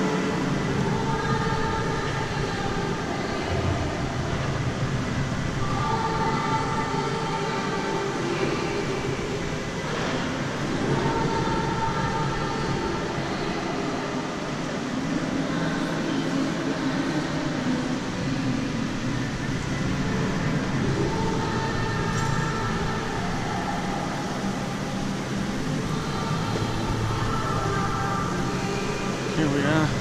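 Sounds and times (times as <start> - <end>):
ventilation hum: 0.0 - 30.0.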